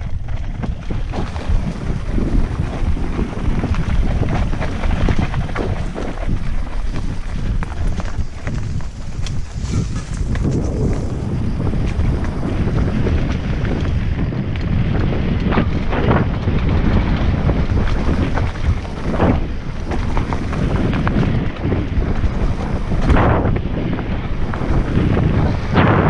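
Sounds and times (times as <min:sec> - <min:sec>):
bike rattling: 0:00.0 - 0:26.0
bike scraping: 0:00.0 - 0:26.0
tyres rolling on dirt and stones: 0:00.0 - 0:26.0
wind buffeting microphone: 0:00.0 - 0:26.0.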